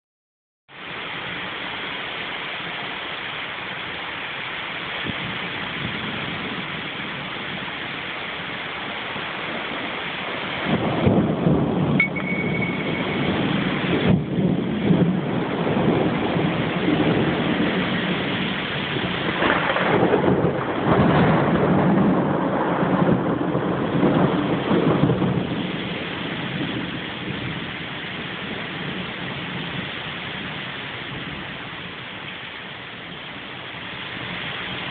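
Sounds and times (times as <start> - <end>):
steady rain: 0.7 - 34.9
rolling thunder rumble: 5.0 - 34.9.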